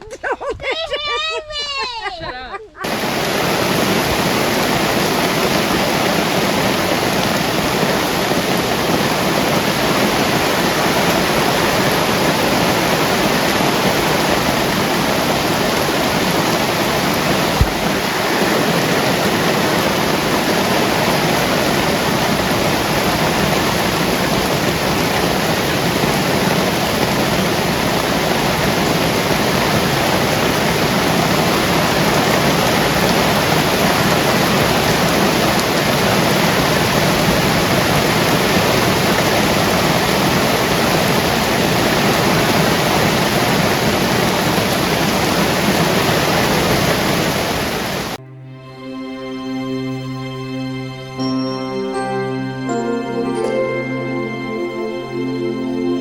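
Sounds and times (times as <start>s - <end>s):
heavy rain pouring: 2.8s - 48.2s.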